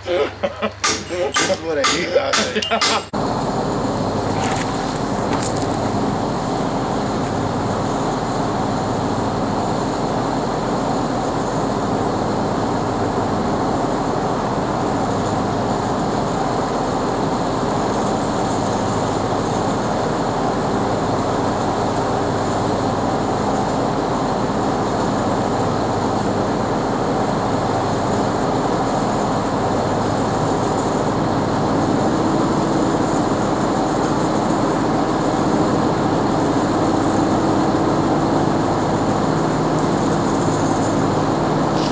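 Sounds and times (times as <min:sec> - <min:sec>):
diesel truck engines running: 0:00.0 - 0:41.9
higher steady engine note: 0:03.2 - 0:41.9.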